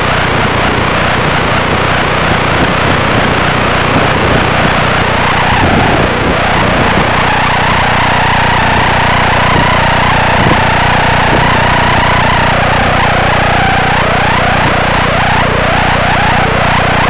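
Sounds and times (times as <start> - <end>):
rc plane motor whine: 2.2 - 17.0.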